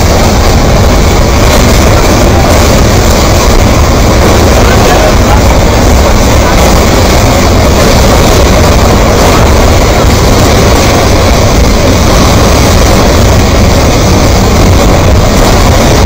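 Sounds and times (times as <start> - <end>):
debris flow rumbling: 0.0 - 16.0.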